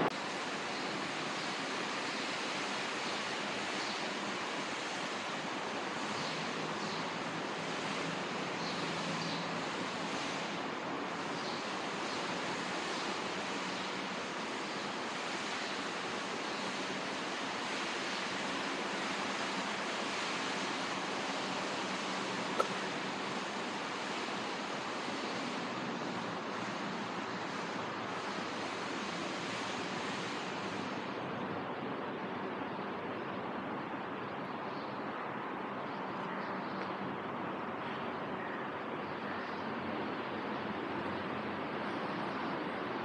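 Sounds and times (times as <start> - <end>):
faint steady hum: 0.0 - 43.0
station hall background hiss: 0.0 - 43.0.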